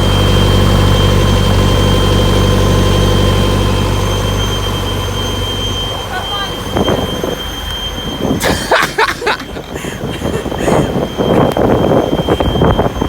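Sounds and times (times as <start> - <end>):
high-pitched whine: 0.0 - 13.0
vehicle engine idling: 0.0 - 13.0.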